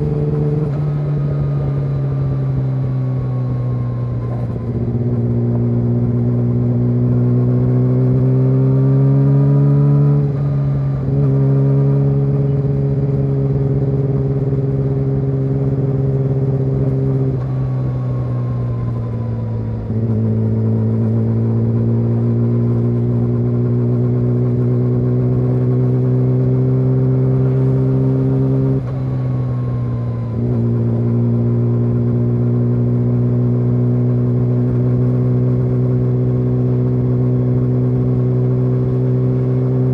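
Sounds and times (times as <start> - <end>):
motorcycle engine under light throttle: 0.0 - 39.9.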